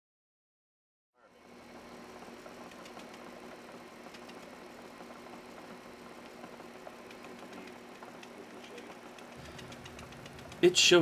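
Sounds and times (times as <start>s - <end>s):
film projector hum: 1.2s - 11.0s
faint mechanism ticking: 1.6s - 11.0s.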